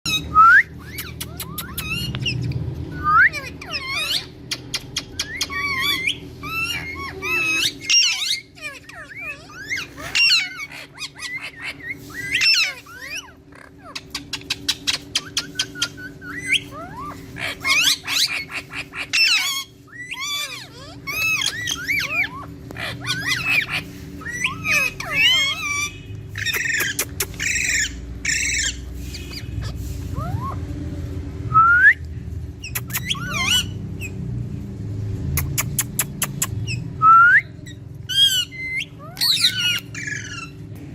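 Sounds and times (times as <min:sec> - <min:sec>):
parakeets squawking: 0:00.0 - 0:31.5, 0:32.1 - 0:40.9
parakeets chattering trills: 0:00.0 - 0:40.9.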